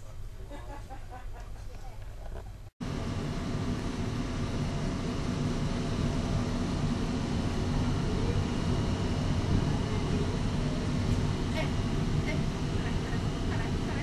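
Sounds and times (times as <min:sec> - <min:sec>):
faint constant hum: 0:00.0 - 0:14.0
low engine rumble: 0:02.6 - 0:14.0.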